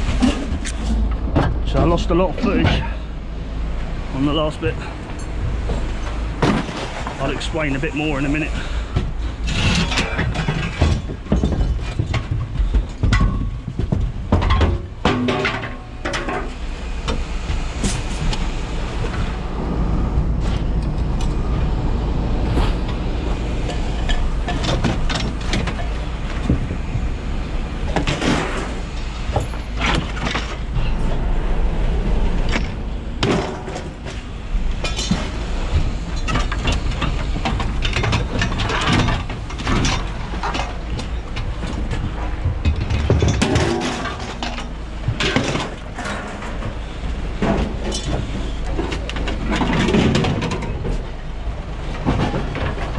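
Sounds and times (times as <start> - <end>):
scrap metal clanging and banging: 0.0 - 3.2, 4.2 - 19.5, 22.4 - 52.9
low rumble: 0.0 - 45.3.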